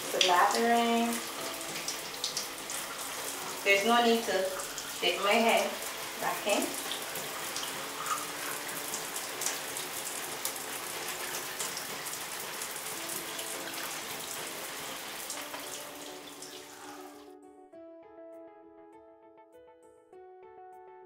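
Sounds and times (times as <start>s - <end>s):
shower water running: 0.0s - 17.3s
background music: 0.0s - 21.0s.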